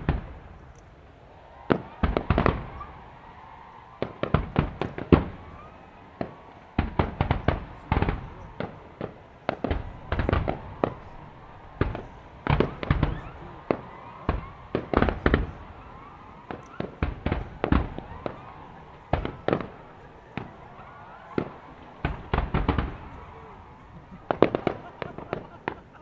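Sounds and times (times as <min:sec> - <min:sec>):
fireworks shells bursting with bangs: 0:00.0 - 0:26.0
echo of bangs: 0:01.4 - 0:26.0.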